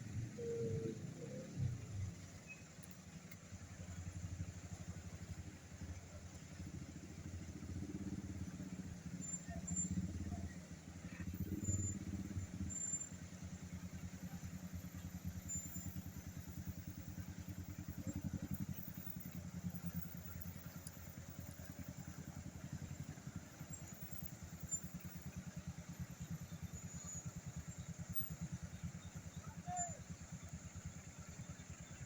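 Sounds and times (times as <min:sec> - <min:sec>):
truck engine pulling uphill: 0:00.0 - 0:32.0.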